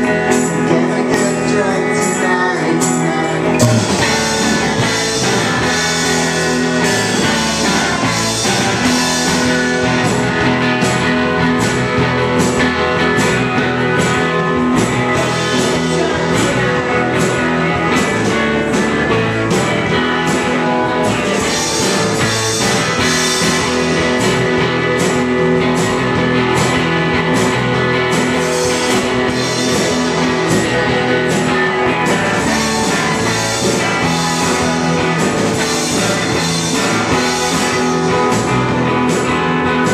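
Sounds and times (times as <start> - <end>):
electric bass: 0.0 - 39.9
electric guitar: 0.0 - 39.9
drum kit with cymbals: 2.8 - 39.9.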